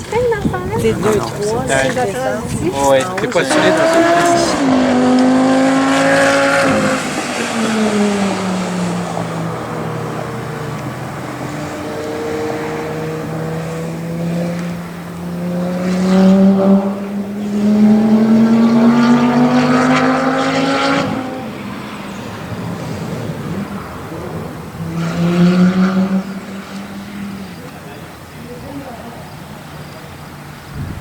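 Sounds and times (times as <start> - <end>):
sports car engine revving: 0.0 - 30.6.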